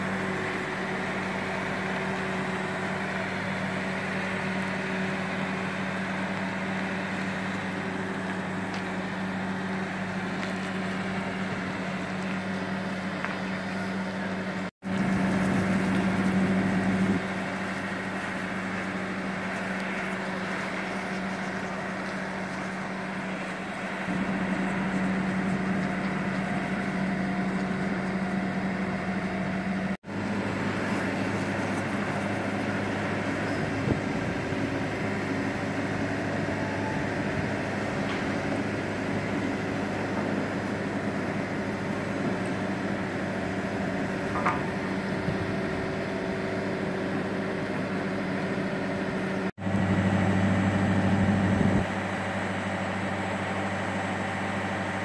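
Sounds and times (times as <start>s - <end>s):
travel lift engine droning: 0.0s - 55.0s.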